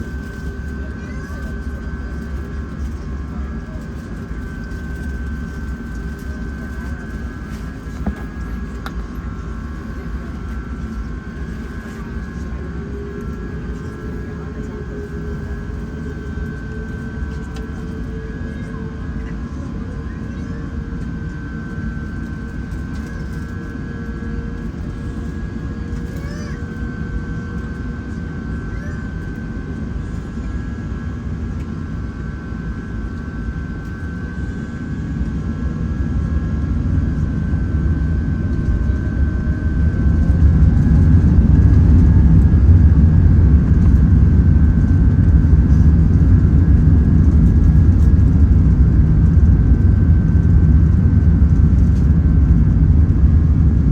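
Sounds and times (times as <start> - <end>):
jet engine rumble with whine: 0.0 - 53.9.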